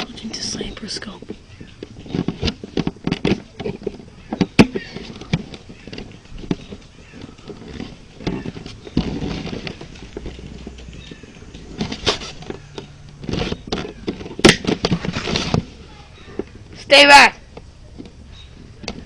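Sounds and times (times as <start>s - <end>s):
rustling: 0.0s - 19.0s.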